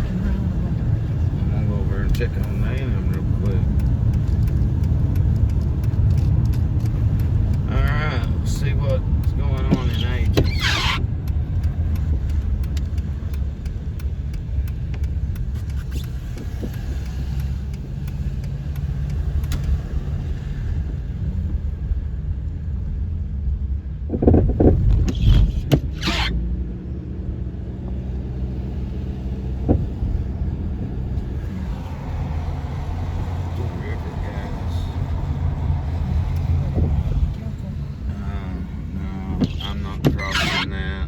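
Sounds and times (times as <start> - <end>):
road and engine rumble: 0.0 - 41.0.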